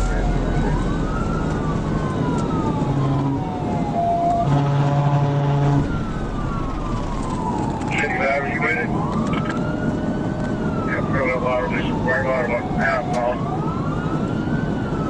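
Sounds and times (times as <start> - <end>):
car engine and road noise: 0.0 - 15.0
police siren wailing: 0.0 - 15.0.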